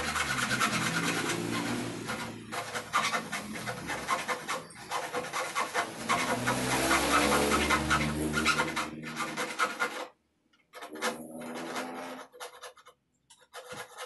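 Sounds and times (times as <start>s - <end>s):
handsaw cutting wood: 0.0s - 14.0s.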